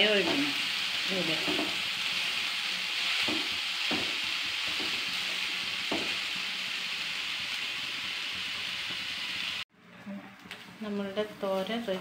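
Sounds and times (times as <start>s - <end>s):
food sizzling in a pan: 0.0s - 9.7s.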